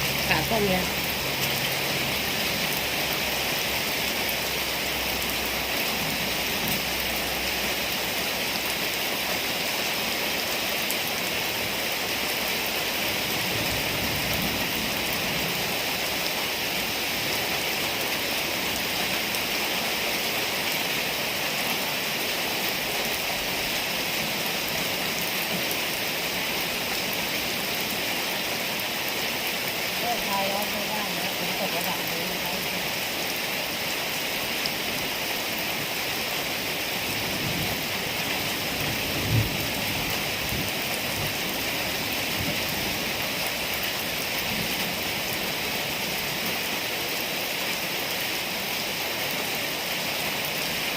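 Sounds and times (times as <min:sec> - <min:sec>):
heavy rain on surfaces: 0:00.0 - 0:50.9.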